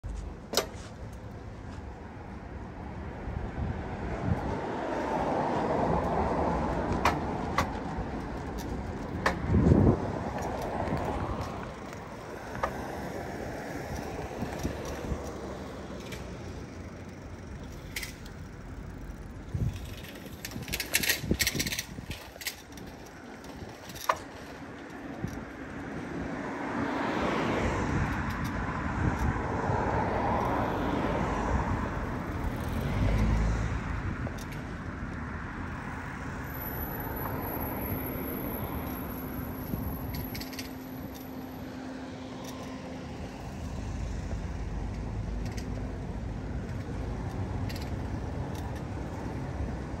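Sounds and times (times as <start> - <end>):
road traffic rush: 0.0 - 50.0
motor vehicle passing: 3.5 - 49.5.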